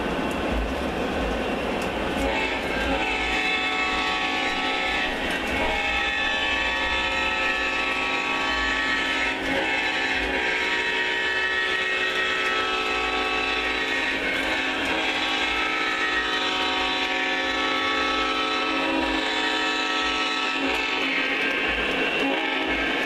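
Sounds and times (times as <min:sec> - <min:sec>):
diesel engine and rail noise: 0:00.0 - 0:23.0
model train air horn: 0:02.2 - 0:23.0.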